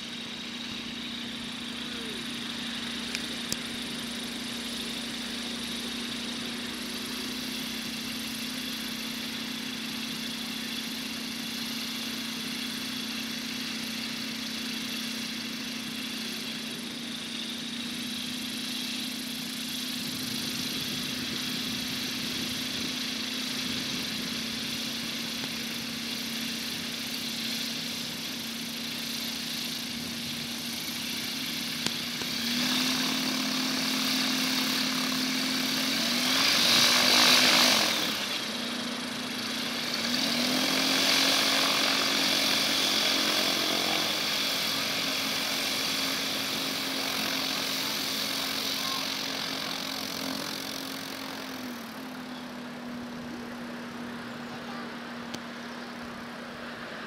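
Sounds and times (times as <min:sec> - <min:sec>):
light aircraft engine and propeller idling: 0:00.0 - 0:57.0.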